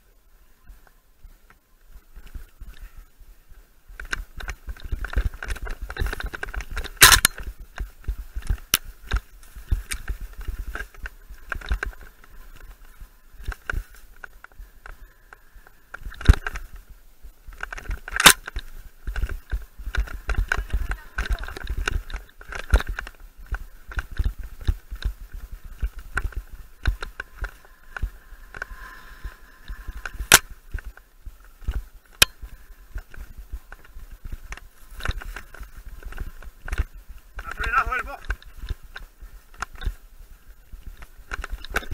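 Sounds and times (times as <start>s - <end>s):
mountain bike rattling on dirt: 2.0s - 41.9s.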